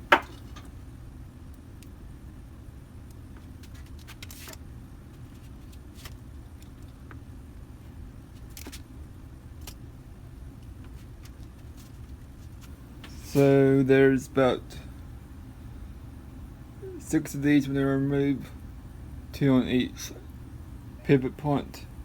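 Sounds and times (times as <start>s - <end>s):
steady low hum: 0.0s - 3.8s, 4.6s - 22.0s.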